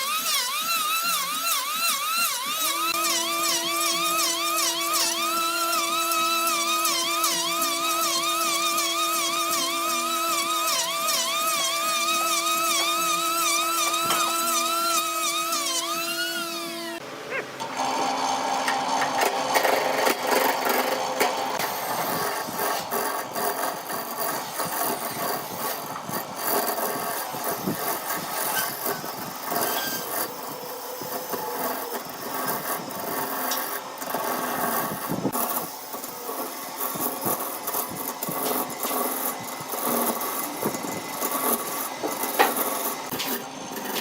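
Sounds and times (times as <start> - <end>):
lathe tool scraping wood: 0.0 - 17.0, 18.7 - 44.0
wood lathe humming: 0.0 - 44.0.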